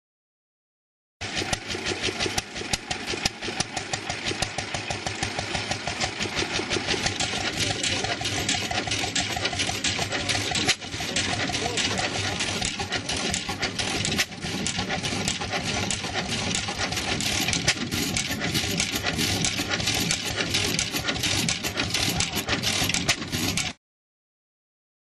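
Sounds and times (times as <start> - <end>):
stationary gas engine running: 1.2 - 23.8.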